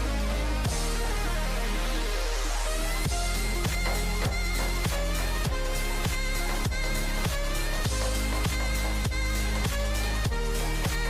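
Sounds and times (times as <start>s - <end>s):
electronic music with heavy bass: 0.0s - 11.0s
sharp downward sweep: 0.0s - 11.0s.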